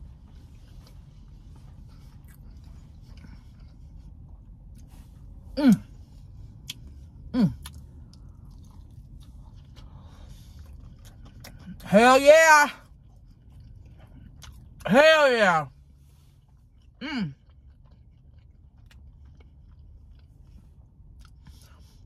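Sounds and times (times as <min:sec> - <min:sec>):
person chewing with mouth clicks: 0:00.5 - 0:11.9, 0:12.8 - 0:14.9, 0:16.4 - 0:22.0.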